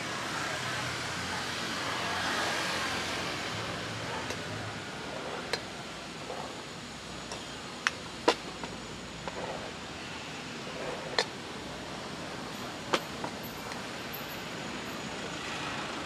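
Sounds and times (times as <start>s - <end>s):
street noise: 0.0s - 16.0s.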